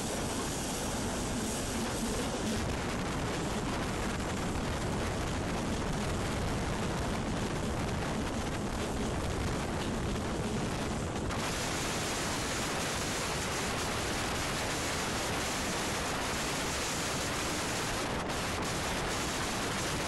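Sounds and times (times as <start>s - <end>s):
train running noise: 0.0s - 20.0s
wind buffeting microphone: 0.0s - 20.0s.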